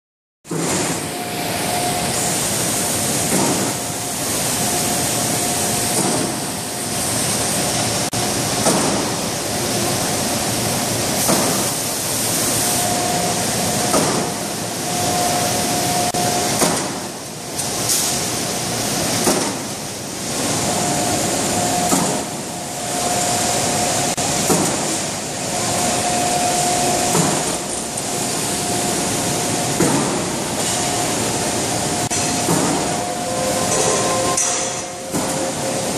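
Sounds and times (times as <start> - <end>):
machine din with whine: 0.5 - 35.9.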